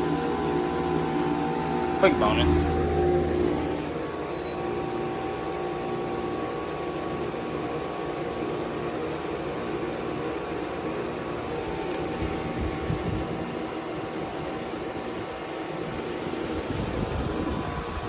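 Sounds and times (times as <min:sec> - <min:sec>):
heat pump fan and compressor hum: 0:00.0 - 0:18.0.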